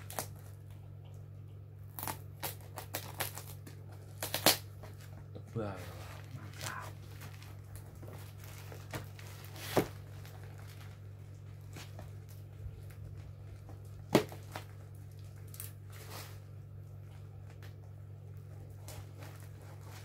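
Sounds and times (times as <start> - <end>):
plastic parcel handled: 0.0 - 0.7, 1.9 - 20.0
low hum: 0.0 - 20.0.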